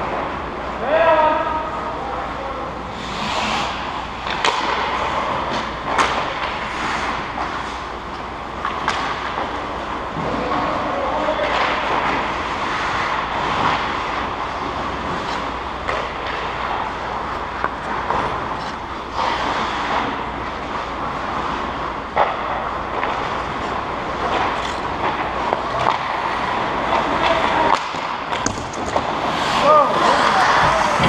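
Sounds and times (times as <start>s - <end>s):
steady rushing rink noise: 0.0s - 31.0s
hockey sticks and puck clacking: 2.9s - 31.0s.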